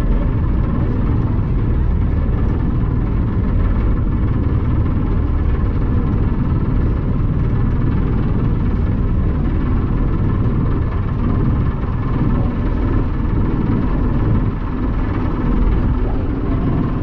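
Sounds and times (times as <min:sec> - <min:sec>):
faint steady hum: 0:00.0 - 0:17.0
ferry engine rumble: 0:00.0 - 0:17.0.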